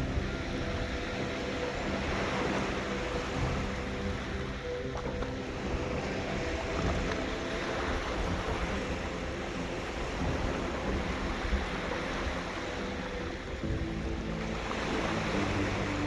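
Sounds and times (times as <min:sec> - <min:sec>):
background music: 0:00.0 - 0:16.0
sea water rushing: 0:00.0 - 0:16.0
wind noise: 0:00.0 - 0:16.0.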